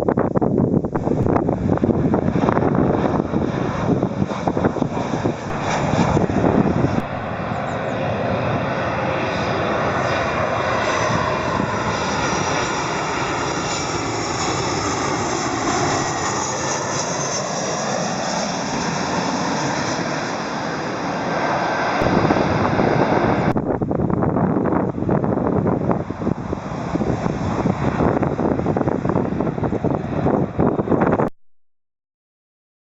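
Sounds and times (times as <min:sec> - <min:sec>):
wind buffeting microphone: 0:00.0 - 0:31.3
jet engines rushing by: 0:00.4 - 0:31.3.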